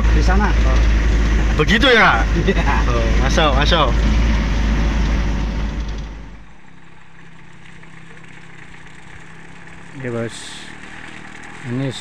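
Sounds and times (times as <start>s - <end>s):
pickup engine rumble: 0.0s - 12.0s
tyres on rough road: 0.0s - 12.0s.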